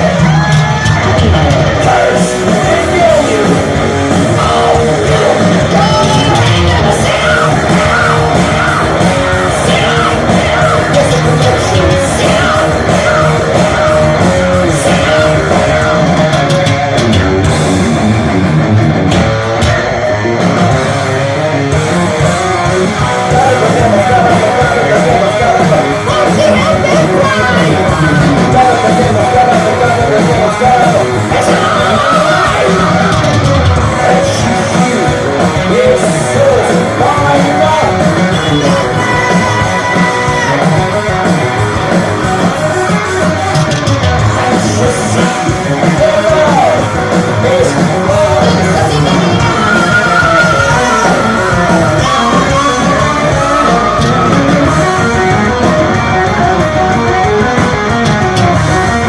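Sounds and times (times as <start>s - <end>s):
live heavy metal band playing: 0.0s - 59.0s.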